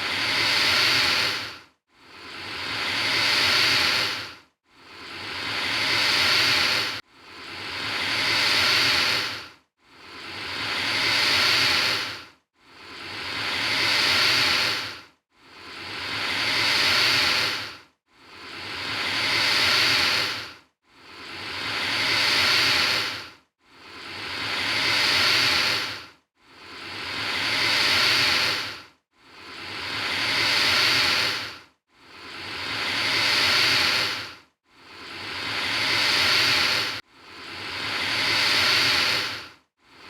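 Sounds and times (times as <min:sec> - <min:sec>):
alligator hissing: 0:00.0 - 0:01.5, 0:02.2 - 0:04.3, 0:05.0 - 0:07.0, 0:07.6 - 0:09.4, 0:10.2 - 0:12.2, 0:12.8 - 0:15.0, 0:15.7 - 0:23.2, 0:23.9 - 0:26.0, 0:26.7 - 0:28.8, 0:29.4 - 0:31.6, 0:32.2 - 0:39.5.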